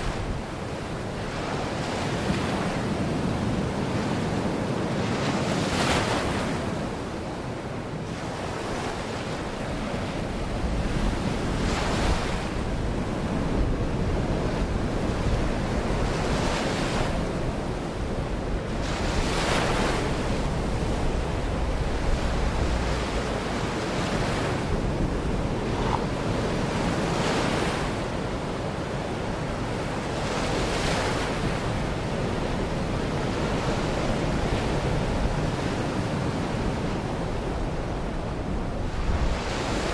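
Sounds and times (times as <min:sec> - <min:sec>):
waves breaking on shore: 0:00.0 - 0:39.9
wind rumble on microphone: 0:00.0 - 0:39.9.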